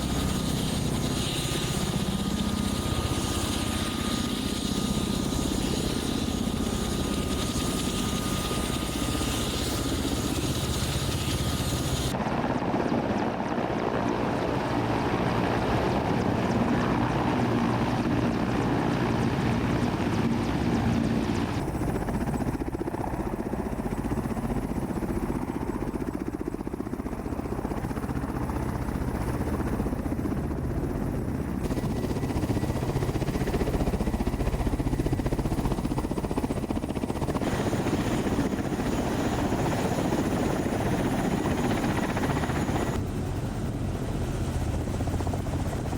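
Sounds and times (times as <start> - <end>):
helicopter rotors chopping: 0.0 - 45.9.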